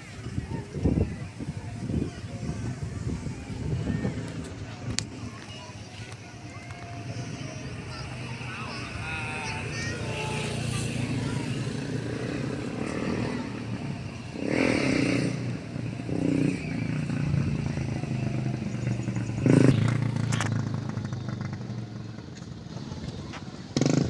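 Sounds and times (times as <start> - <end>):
vehicle engines passing by: 0.0 - 24.0.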